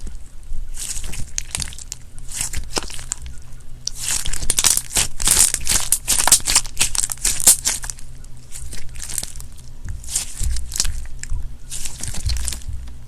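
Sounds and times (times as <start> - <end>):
slime crackling and popping: 0.7 - 13.0.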